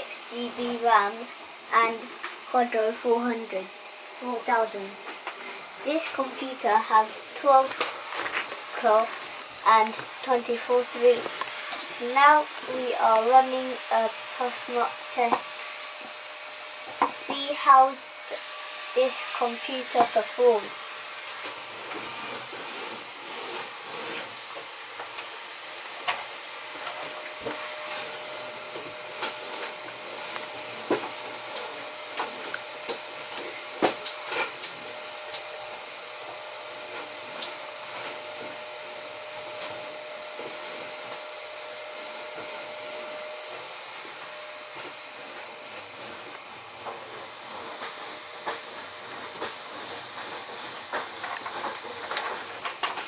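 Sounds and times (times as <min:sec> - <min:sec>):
computer cooling fans blowing: 0:00.0 - 0:53.0
faint steady whine: 0:00.0 - 0:53.0.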